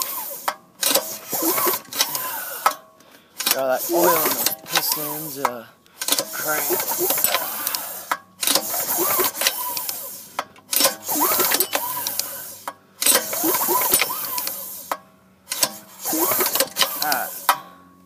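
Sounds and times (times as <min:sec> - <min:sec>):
recoil starter pulls whirring: 0:00.0 - 0:18.0.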